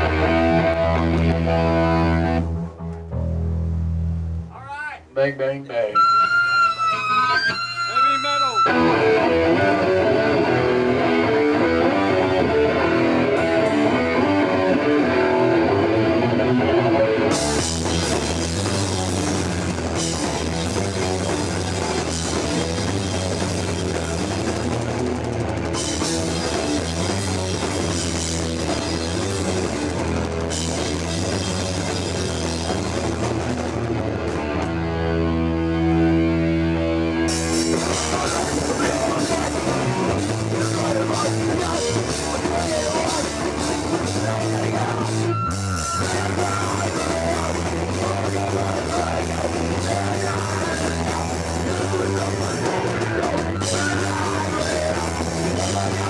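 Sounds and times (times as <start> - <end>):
punk band playing live: 0.0 - 4.6, 5.9 - 56.0
drums: 0.0 - 56.0
electric guitar riff: 0.0 - 56.0.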